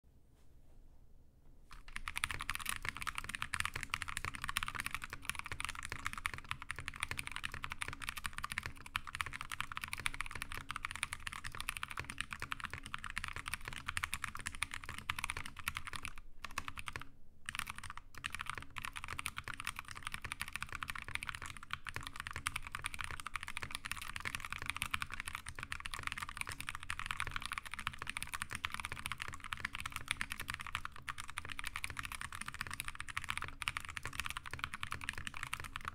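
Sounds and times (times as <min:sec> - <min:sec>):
mechanical keyboard typing: 0:01.7 - 0:35.9.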